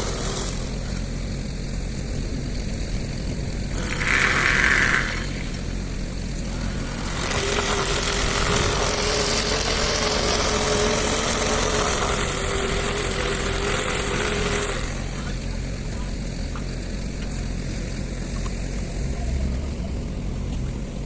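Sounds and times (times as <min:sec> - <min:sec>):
engine running: 0:00.0 - 0:21.0
steady whine: 0:00.0 - 0:21.0.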